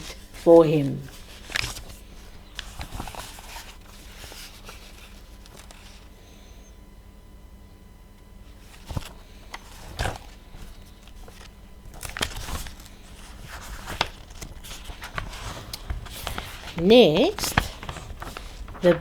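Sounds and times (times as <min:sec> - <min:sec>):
objects rustling: 0:00.0 - 0:06.1, 0:08.6 - 0:19.0.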